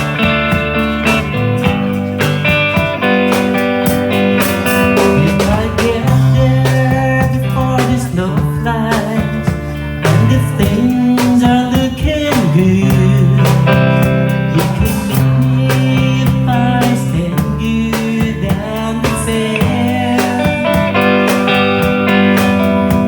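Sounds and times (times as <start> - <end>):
guitars: 0.0 - 23.0
steady drum beat: 0.0 - 23.0
person singing: 4.4 - 23.0.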